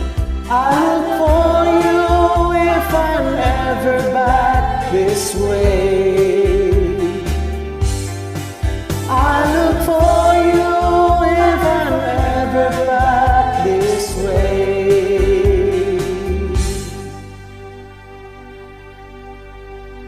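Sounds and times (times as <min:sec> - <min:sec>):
steady drum beat: 0:00.0 - 0:17.2
country-folk band playing: 0:00.0 - 0:17.5.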